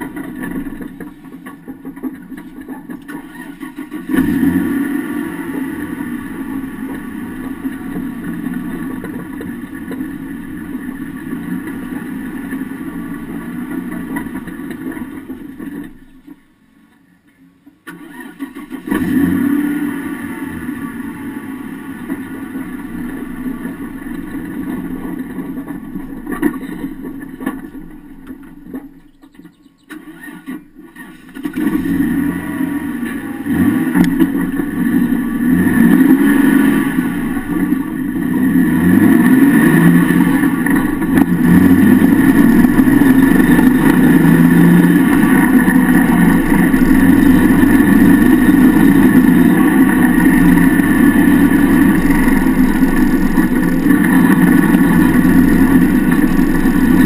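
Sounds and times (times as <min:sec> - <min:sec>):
off-road vehicle engine droning: 0:00.0 - 0:57.0.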